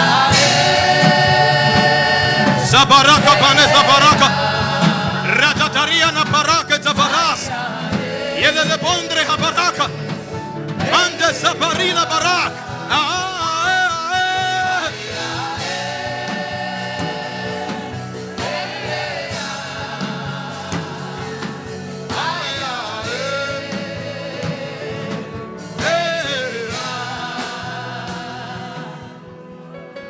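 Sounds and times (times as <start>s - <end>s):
voices singing held notes: 0.0s - 29.6s
sustained musical backing: 0.0s - 30.0s.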